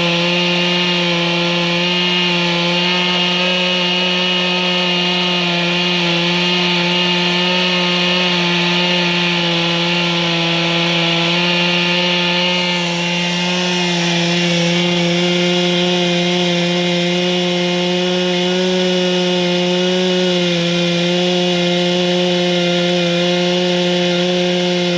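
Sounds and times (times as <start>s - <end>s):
chainsaw sawing boards: 0.0s - 24.9s.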